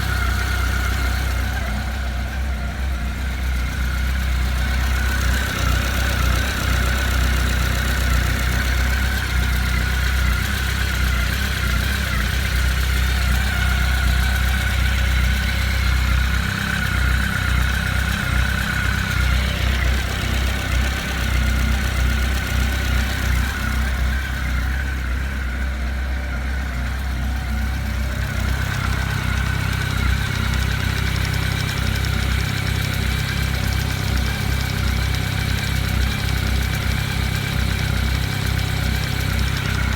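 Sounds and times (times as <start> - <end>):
engine knocking: 0.0 - 39.9
motorcycle engine idling: 0.0 - 39.9.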